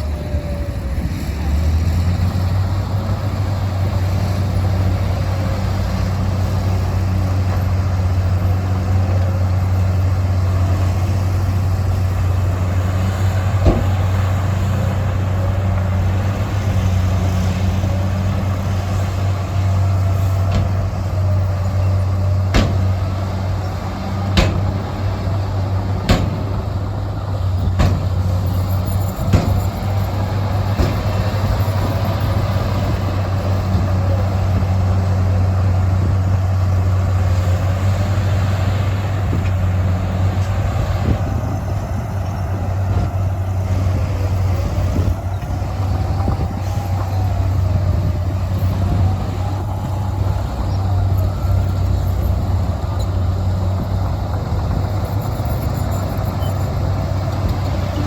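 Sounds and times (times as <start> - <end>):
heavy machinery engine drone: 0.0 - 58.0.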